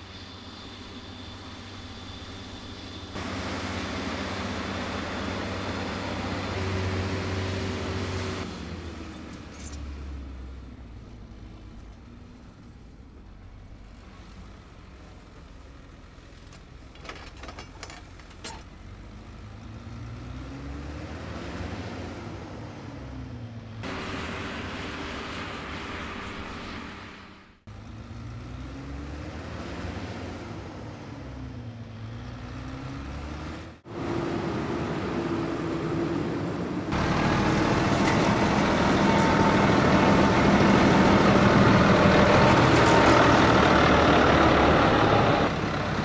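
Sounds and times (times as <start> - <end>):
tractor diesel engine under load: 0.0 - 9.5, 12.4 - 20.3, 21.1 - 46.0.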